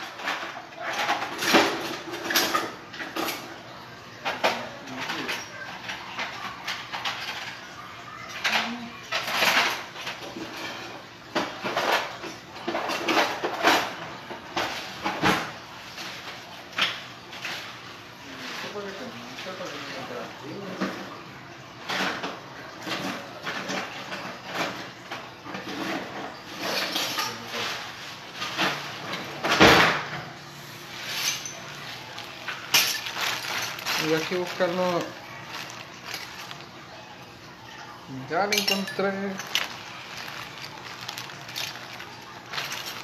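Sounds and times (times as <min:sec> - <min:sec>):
drawers and cupboards rummaged: 0:00.0 - 0:16.5, 0:21.8 - 0:43.0
kitchen utensils clattering: 0:00.0 - 0:43.0.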